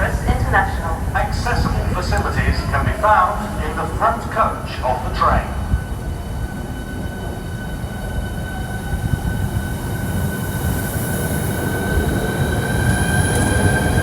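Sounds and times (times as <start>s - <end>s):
electric train motors whining: 0.0s - 14.0s
low train rumble: 0.0s - 14.0s.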